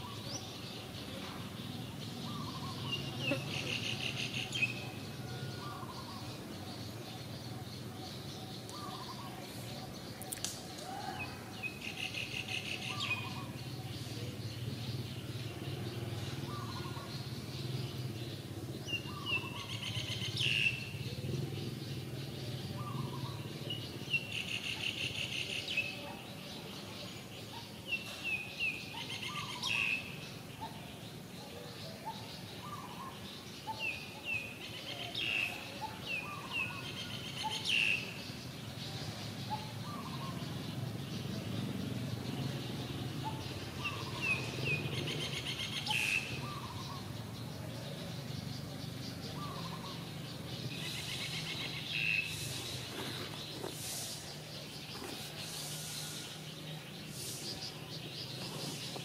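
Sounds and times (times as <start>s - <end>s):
birds trilled chirping: 0.0s - 59.0s.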